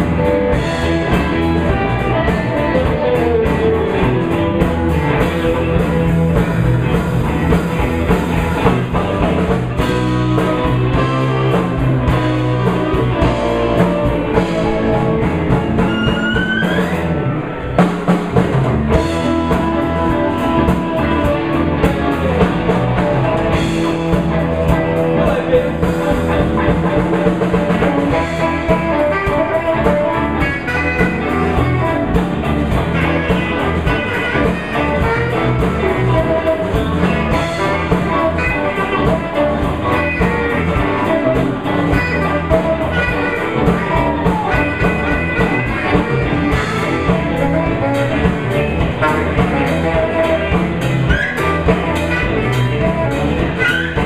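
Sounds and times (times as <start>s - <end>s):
bass guitar: 0.0s - 54.0s
drum kit: 0.0s - 54.0s
electric guitar: 0.0s - 54.0s
saxophone: 0.0s - 54.0s.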